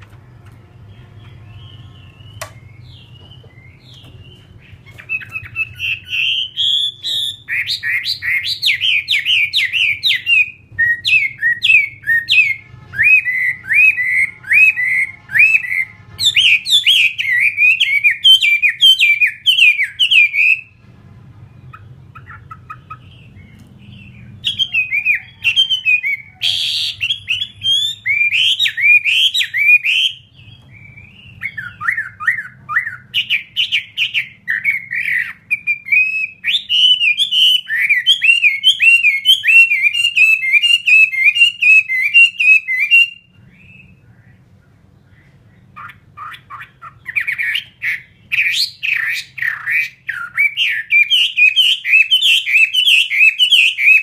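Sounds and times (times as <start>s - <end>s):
bird singing rapid whistles: 0.7s - 20.8s, 21.6s - 44.0s, 45.8s - 54.0s.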